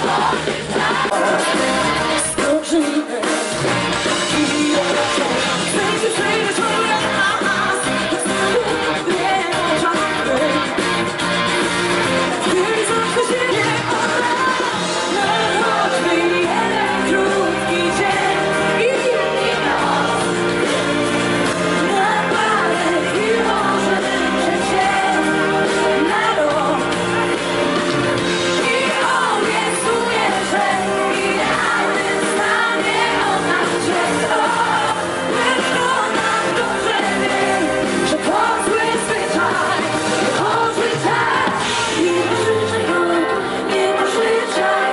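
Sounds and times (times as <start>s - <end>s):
woman singing lead: 0.0s - 11.0s, 12.2s - 44.9s
live pop band over loud pa: 0.0s - 44.9s.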